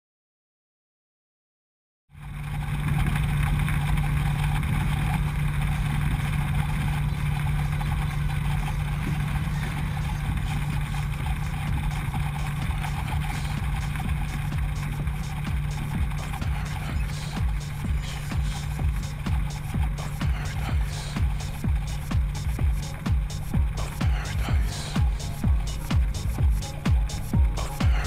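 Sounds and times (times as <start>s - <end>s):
light aircraft engine droning: 2.1s - 28.0s.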